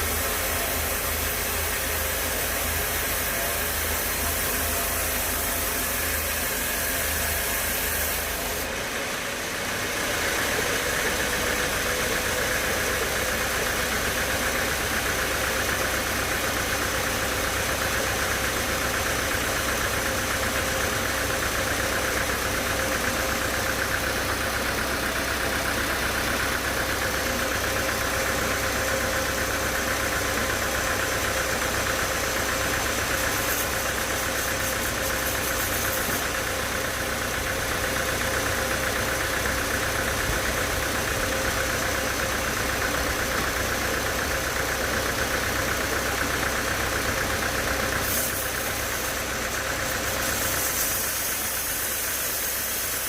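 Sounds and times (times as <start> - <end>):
sawmill saw machinery droning: 0.0 - 53.0.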